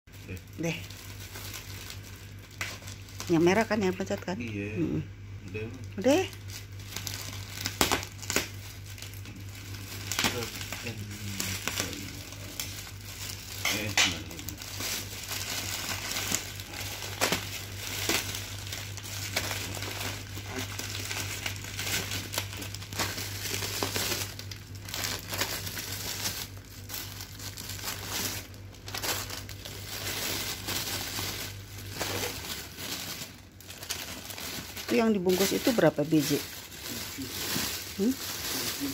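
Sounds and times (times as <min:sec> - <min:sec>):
plastic crinkling and rustling: 0:00.1 - 0:04.3, 0:05.7 - 0:38.9.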